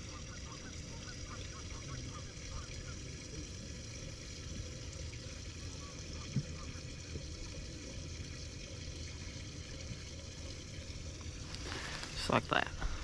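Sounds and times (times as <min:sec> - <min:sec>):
lapping water: 0:00.0 - 0:13.0.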